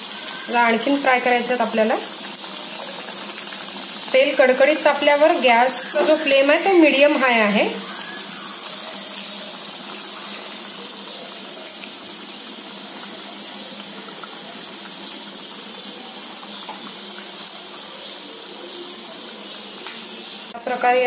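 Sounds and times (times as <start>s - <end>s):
dough deep-frying in sizzling oil: 0.0s - 21.0s.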